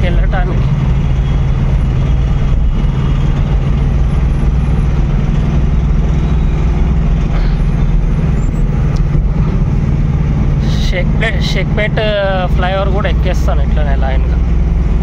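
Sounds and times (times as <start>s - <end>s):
pickup engine running: 0.0s - 15.0s
road noise: 0.0s - 15.0s.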